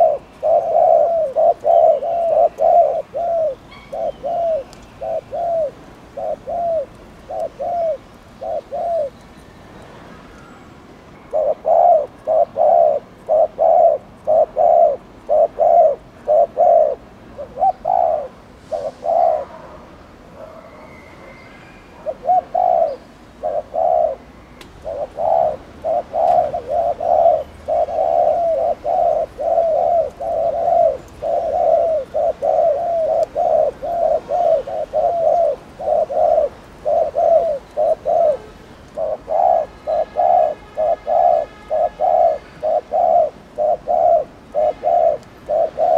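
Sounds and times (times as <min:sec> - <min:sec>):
dove cooing: 0:00.0 - 0:09.2, 0:11.3 - 0:20.7, 0:21.9 - 0:45.9.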